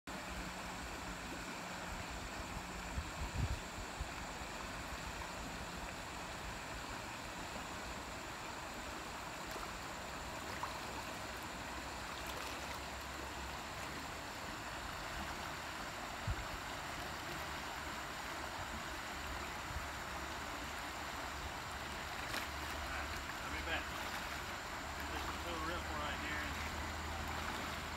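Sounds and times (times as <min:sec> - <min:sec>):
creek flowing over rocks: 0:00.1 - 0:27.9.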